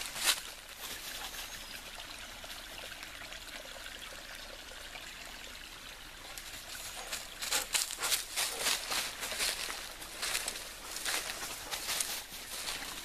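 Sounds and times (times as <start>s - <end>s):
creek trickling over rocks: 0.0s - 13.0s.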